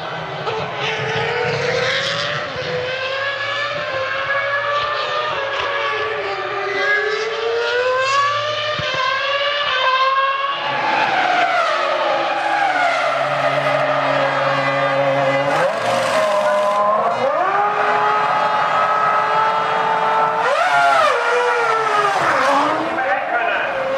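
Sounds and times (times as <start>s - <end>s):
racing car engines at high revs: 0.0s - 23.9s.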